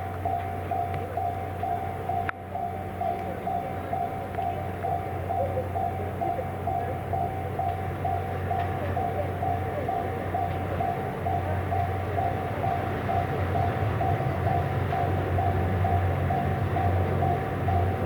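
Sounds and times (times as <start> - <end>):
diesel train rumbling past: 0.0 - 18.0
level crossing warning bell ringing: 0.0 - 18.0.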